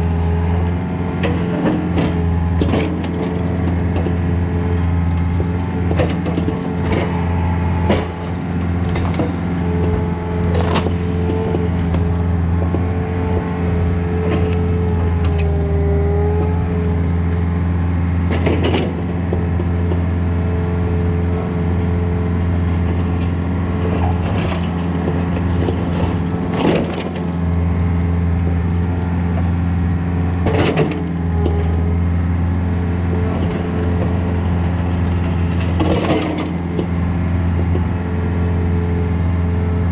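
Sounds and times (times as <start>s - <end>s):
mini excavator running: 0.0s - 39.9s.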